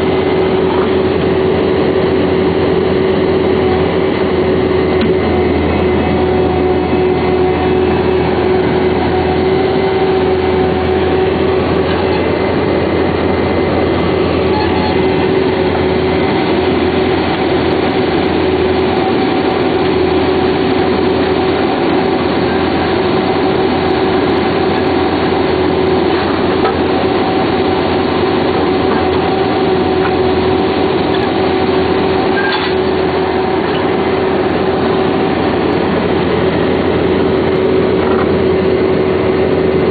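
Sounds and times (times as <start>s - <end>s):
drilling rig drone with whine: 0.0s - 39.9s.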